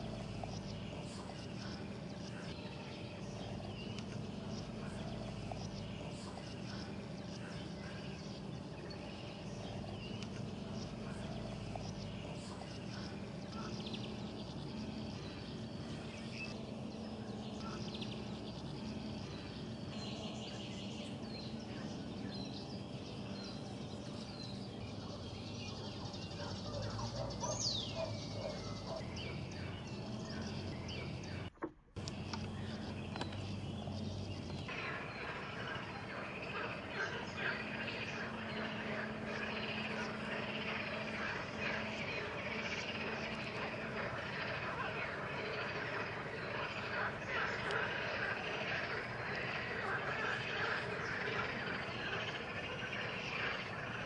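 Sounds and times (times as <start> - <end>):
birds chirping and calling: 0.0 - 54.0
steady low hum: 0.0 - 54.0.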